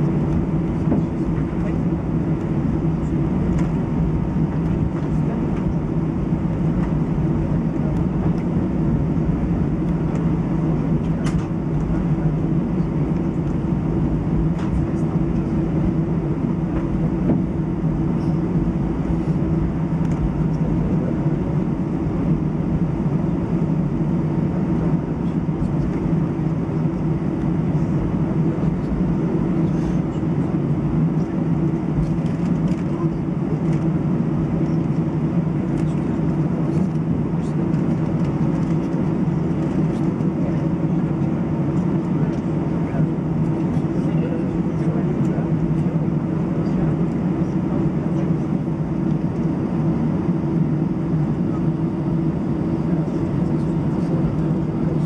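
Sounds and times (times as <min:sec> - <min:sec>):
jet engines idling hum: 0:00.0 - 0:55.0.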